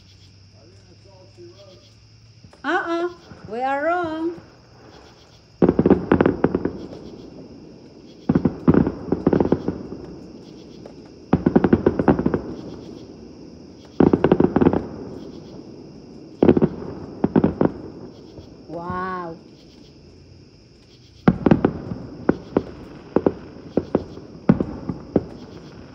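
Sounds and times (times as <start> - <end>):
fireworks crackling bangs: 0.0 - 25.9
fireworks rumble: 0.0 - 25.9.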